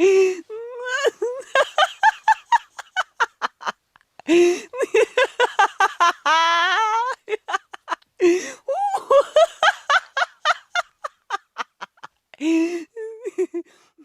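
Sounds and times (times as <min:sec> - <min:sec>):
woman laughing: 0:00.0 - 0:13.8.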